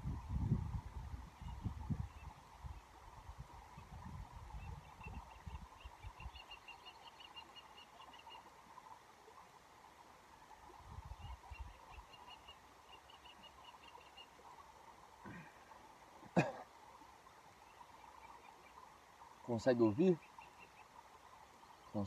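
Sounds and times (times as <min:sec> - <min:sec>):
shallow stream running: 0:00.0 - 0:22.0.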